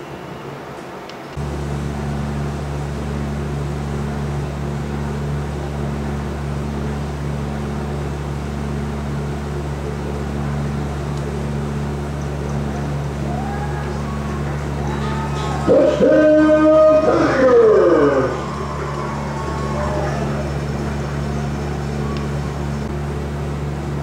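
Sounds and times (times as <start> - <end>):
steady low hum: 1.3 - 24.0.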